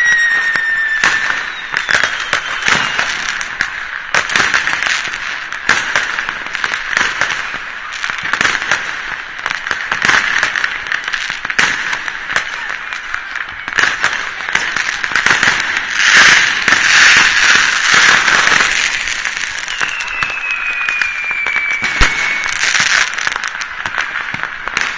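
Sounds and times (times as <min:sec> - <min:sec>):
falling firework whistle: 0:00.0 - 0:08.8, 0:12.4 - 0:24.9
fireworks crackling and banging: 0:00.0 - 0:24.9.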